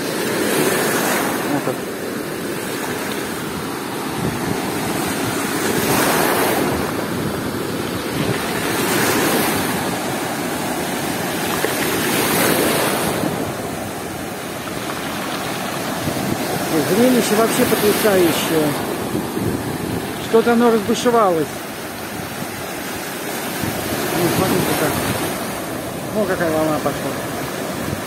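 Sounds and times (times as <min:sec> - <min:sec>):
surf washing over pebbles: 0:00.0 - 0:28.0.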